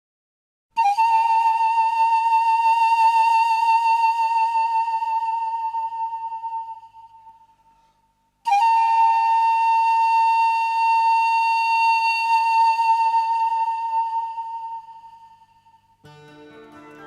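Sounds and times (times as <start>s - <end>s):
pan flute playing: 0.8s - 7.3s, 8.5s - 15.4s, 16.1s - 17.0s.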